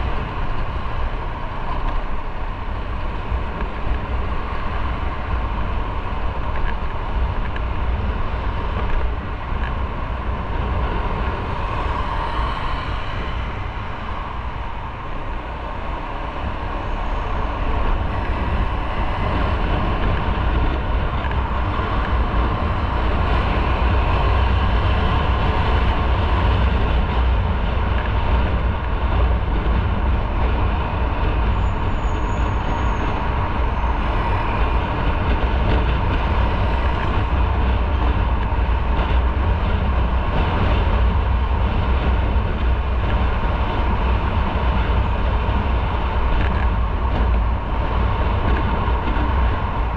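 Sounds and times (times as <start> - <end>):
wind rumble on microphone: 0.0 - 49.9.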